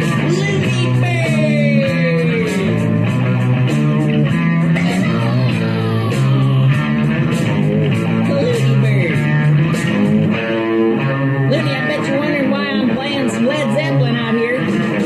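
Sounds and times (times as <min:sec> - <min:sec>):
bass line: 0:00.0 - 0:15.0
rock guitar playing: 0:00.0 - 0:15.0.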